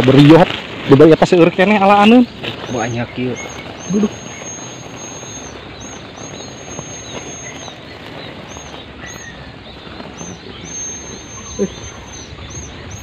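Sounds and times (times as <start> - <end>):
small birds calling: 0.0 - 13.0
steady rustle: 0.0 - 13.0.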